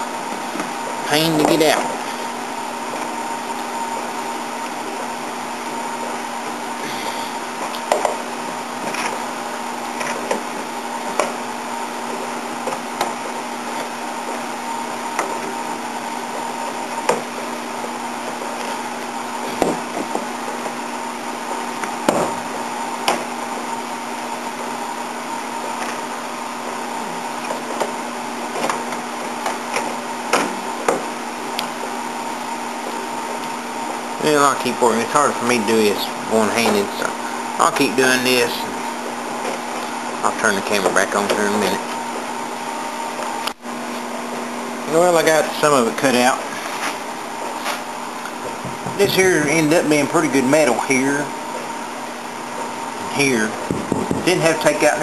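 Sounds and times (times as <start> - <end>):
electric motor hum: 0.0 - 55.0.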